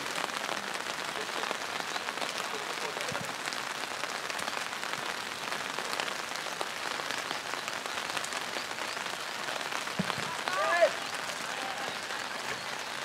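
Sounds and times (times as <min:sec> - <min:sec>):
raindrops ticking: 0:00.0 - 0:13.0
steady rain hiss: 0:00.0 - 0:13.0.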